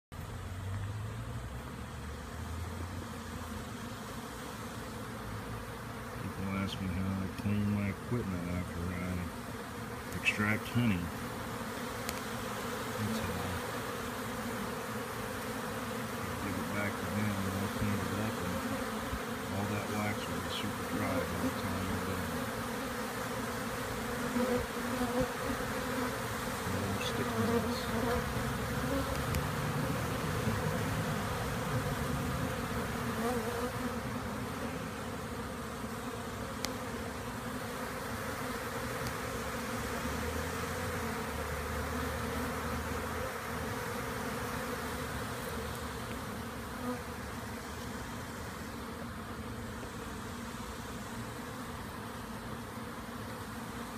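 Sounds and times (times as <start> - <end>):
bees buzzing: 0.2 - 53.9.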